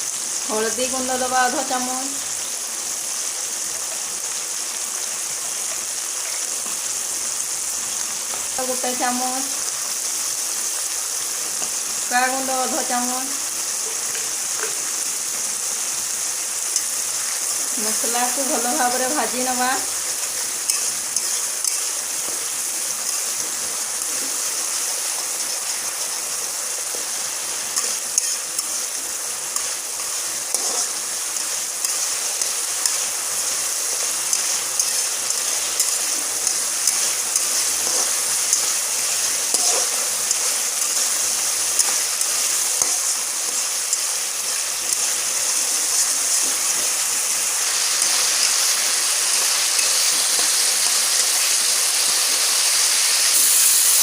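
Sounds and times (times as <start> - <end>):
masala sizzling in hot oil: 0.0 - 54.0.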